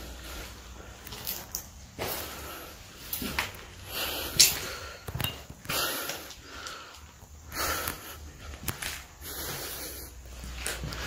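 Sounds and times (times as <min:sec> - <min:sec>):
person breathing close to microphone: 0:00.0 - 0:11.0.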